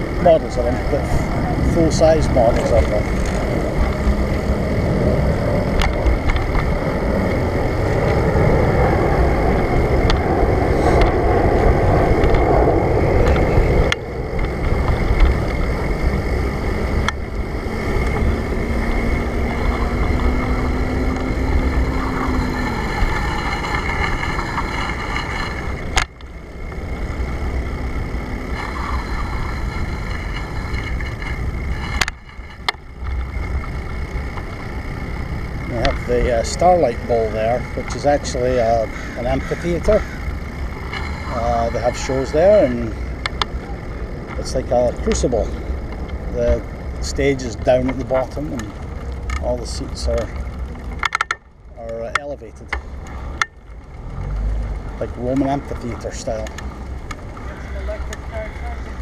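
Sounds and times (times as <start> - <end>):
bicycle rolling noise: 0.0 - 59.0.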